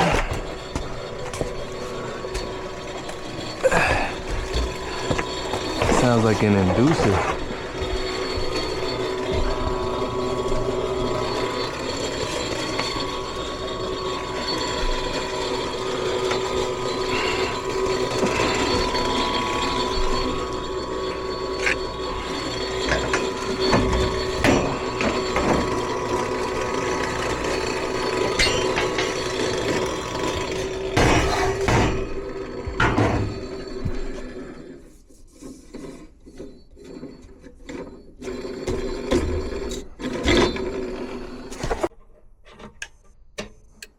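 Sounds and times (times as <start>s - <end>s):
motor humming and rattling: 0.0s - 41.9s.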